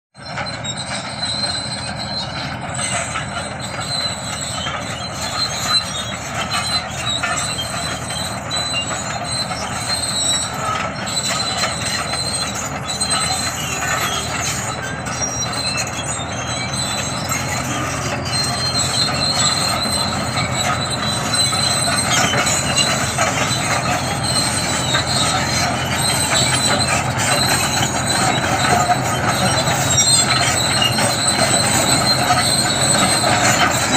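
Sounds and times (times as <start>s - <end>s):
bulldozer engine running: 0.2s - 33.9s
crawler tracks squealing and clanking: 0.2s - 33.9s.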